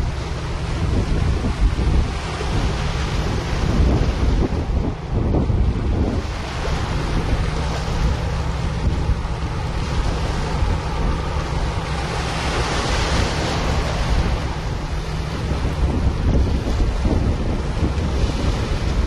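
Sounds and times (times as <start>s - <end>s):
sea wash: 0.0s - 19.0s
ship engines humming: 0.0s - 19.0s
wind buffeting microphone: 0.0s - 19.0s.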